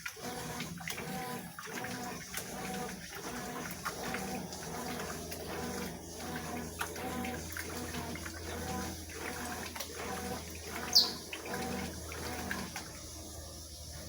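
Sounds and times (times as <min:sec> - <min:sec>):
washing machine motor hum pulsing: 0:00.0 - 0:14.0
water sloshing in washing machine: 0:00.0 - 0:14.0.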